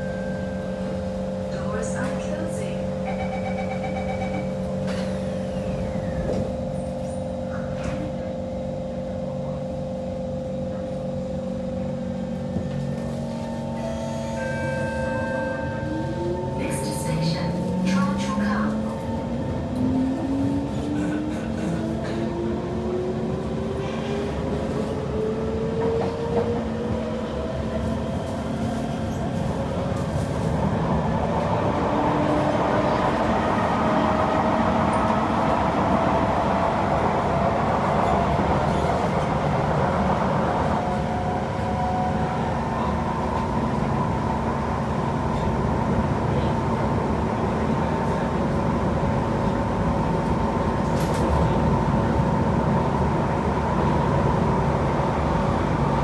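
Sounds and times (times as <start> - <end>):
wheels rumbling on track: 0.0 - 56.0.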